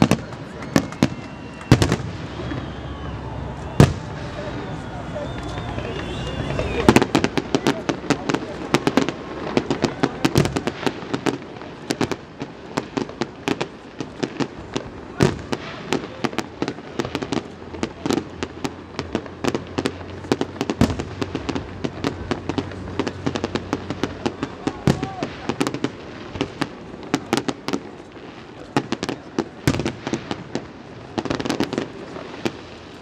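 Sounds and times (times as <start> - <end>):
fireworks bangs and crackles: 0.0 - 33.0
loud firework booms: 0.0 - 33.0.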